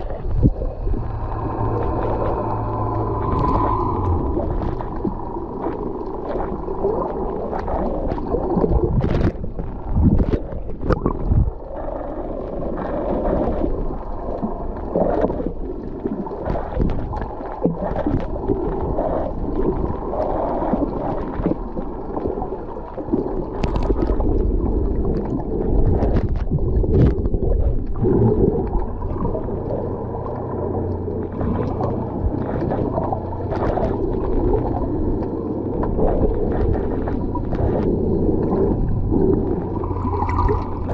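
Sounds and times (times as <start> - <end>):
underwater churning and gurgling: 0.0 - 40.9.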